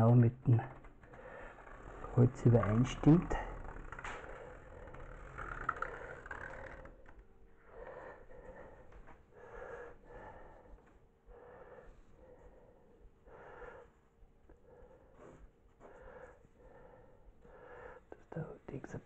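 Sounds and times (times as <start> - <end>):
man breathing faintly: 0.7 - 19.0.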